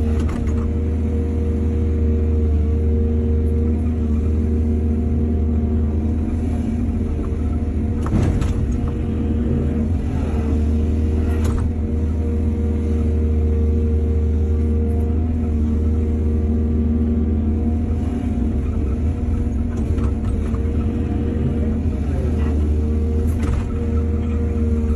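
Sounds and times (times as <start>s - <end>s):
excavator diesel engine: 0.0s - 24.9s.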